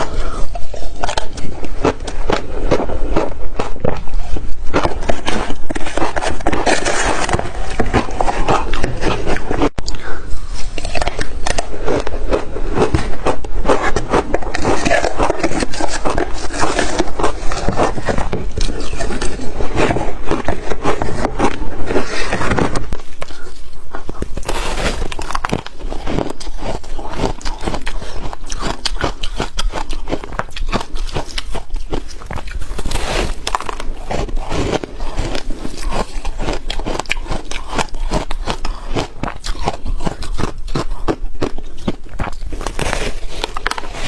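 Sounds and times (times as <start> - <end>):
ice crunching while chewed: 0.0 - 44.0.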